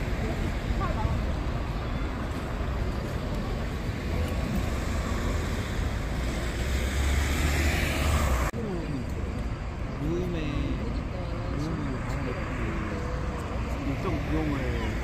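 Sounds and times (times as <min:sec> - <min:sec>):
city street traffic roar: 0:00.0 - 0:15.0.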